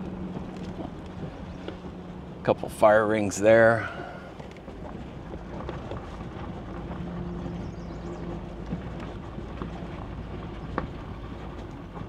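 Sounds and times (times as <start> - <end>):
vehicle engine and drivetrain hum: 0.0 - 12.0.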